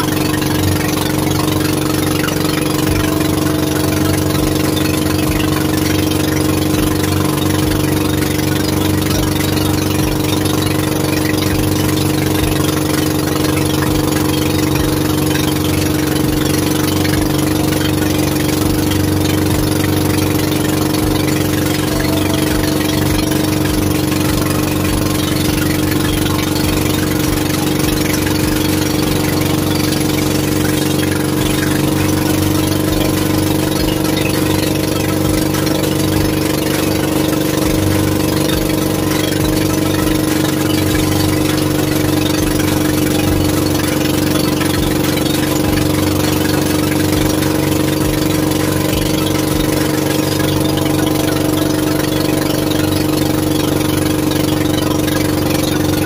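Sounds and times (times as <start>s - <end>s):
boat engine running steadily: 0.0s - 56.0s.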